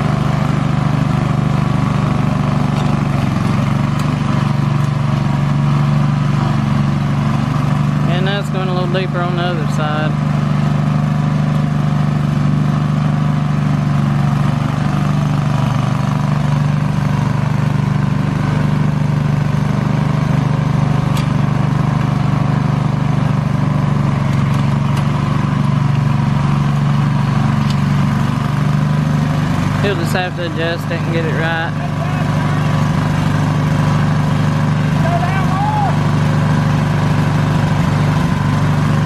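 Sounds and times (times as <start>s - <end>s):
garden tractor engine running: 0.0s - 39.0s.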